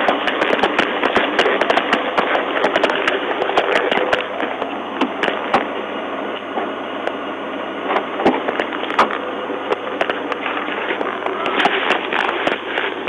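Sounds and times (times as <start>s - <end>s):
crackling clicks: 0.0s - 7.2s, 7.9s - 13.0s
static hiss: 0.0s - 13.0s.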